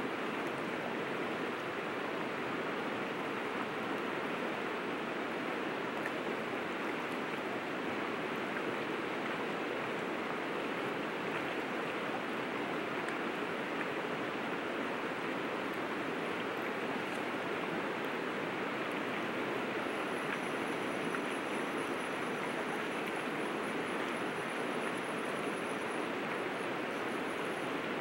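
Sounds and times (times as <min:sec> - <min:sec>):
river water flowing over rocks: 0:00.0 - 0:28.0.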